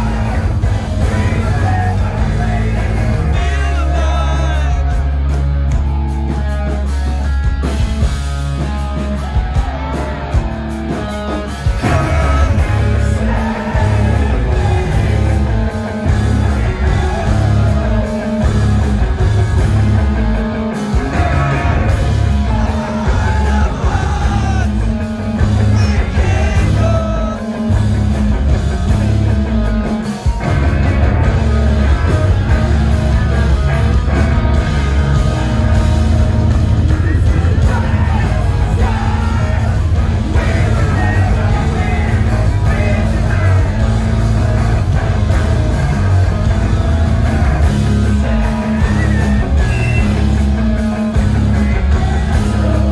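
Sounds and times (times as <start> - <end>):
man singing lead vocals: 0.0 - 5.4, 10.9 - 28.6, 30.7 - 52.9
live rock band playing: 0.0 - 52.9.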